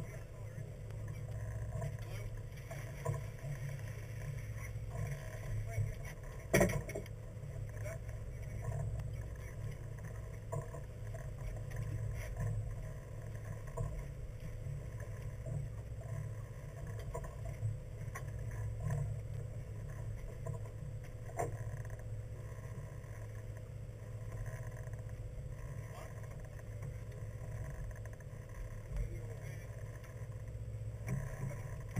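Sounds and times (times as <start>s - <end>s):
boat engine rumbling: 0.0s - 31.9s.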